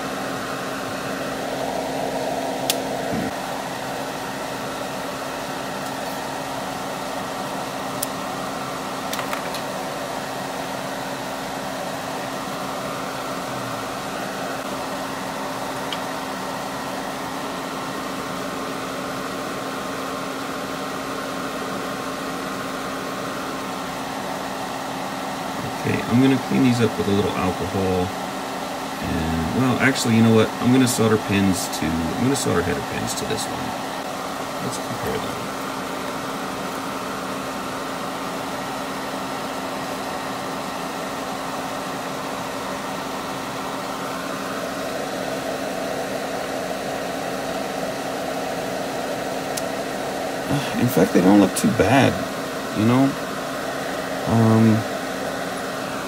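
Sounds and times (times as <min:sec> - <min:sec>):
electric fan whirring: 0:00.0 - 0:56.0.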